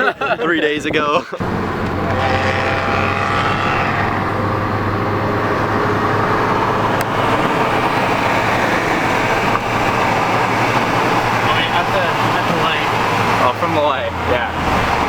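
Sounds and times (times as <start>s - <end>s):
road and tyre noise: 0.0s - 15.0s
car engine humming: 1.4s - 15.0s.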